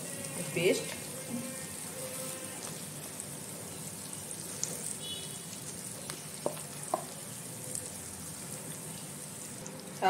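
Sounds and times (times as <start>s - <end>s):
oil sizzling in pan: 0.0s - 10.0s.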